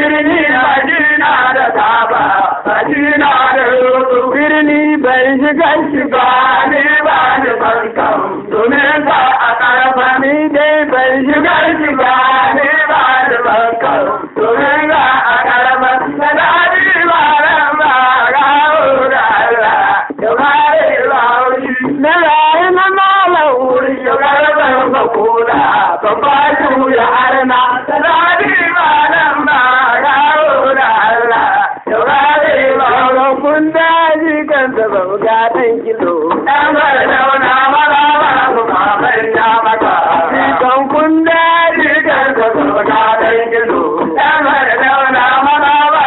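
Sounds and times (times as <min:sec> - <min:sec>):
man singing in chanting style: 0:00.0 - 0:46.0.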